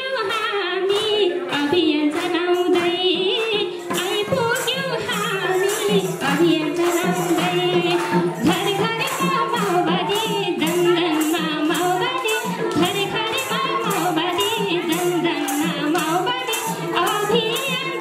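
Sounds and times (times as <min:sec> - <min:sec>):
woman singing into microphone: 0:00.0 - 0:18.0
hand-clapping: 0:00.2 - 0:18.0.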